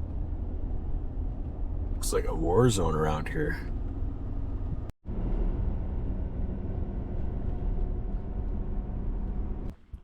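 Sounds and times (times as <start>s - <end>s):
truck road and engine noise: 0.0s - 10.0s.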